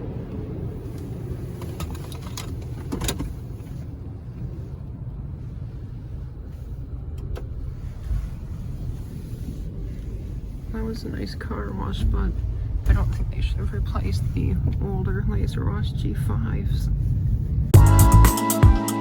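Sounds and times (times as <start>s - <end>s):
car engine rumbling: 0.0s - 18.3s.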